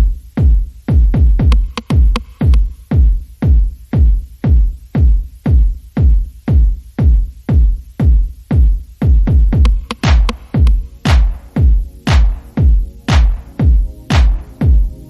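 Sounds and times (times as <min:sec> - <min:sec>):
deep kick drum beat: 0:00.0 - 0:15.0
electronic music: 0:00.0 - 0:15.0.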